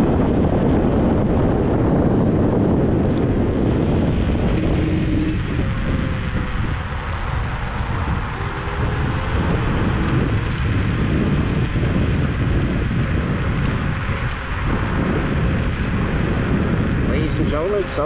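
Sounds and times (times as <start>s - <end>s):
wind rush on microphone: 0.0s - 18.0s
tyre rumble on pavement: 1.7s - 16.9s.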